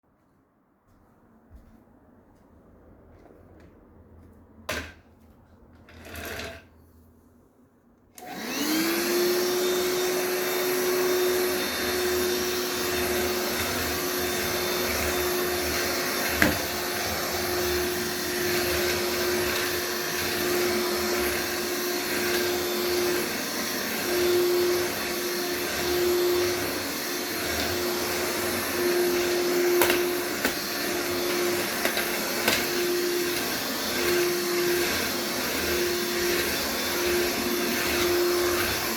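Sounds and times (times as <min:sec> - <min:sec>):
vacuum cleaner motor whine: 0:05.9 - 0:06.6, 0:08.2 - 0:38.9.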